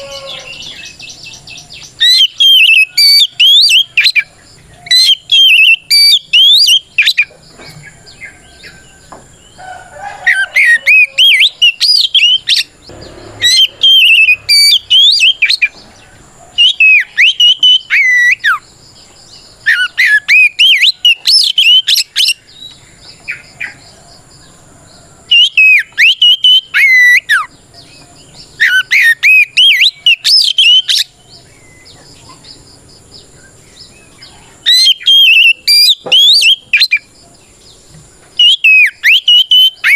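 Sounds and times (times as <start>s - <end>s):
bird singing whistled notes: 0.0s - 7.3s, 10.3s - 24.0s, 25.3s - 37.8s, 38.4s - 39.9s.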